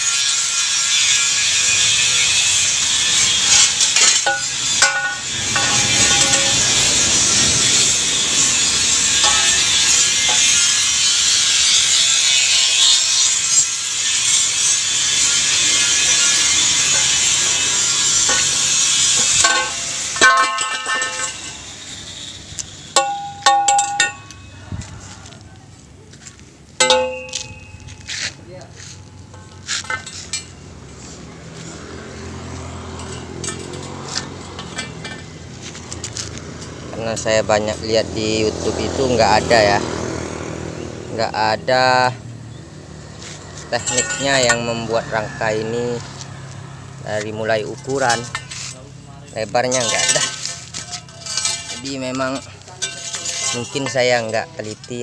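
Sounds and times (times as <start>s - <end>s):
metal pipe frame scraping on concrete: 0.0s - 25.3s, 26.8s - 40.3s, 43.1s - 55.0s
steady engine hum: 1.1s - 12.7s, 13.4s - 55.0s.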